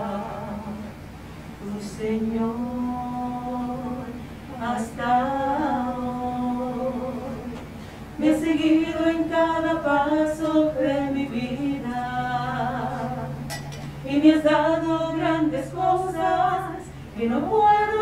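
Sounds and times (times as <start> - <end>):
women singing a hymn: 0.0 - 18.0.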